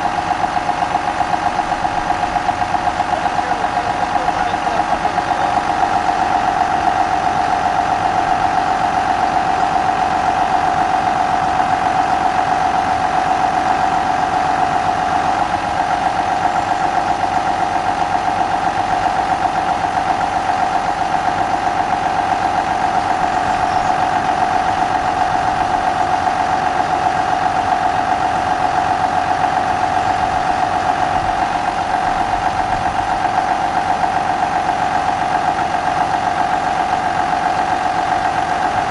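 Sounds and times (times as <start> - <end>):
tractor diesel engine droning: 0.0 - 38.9.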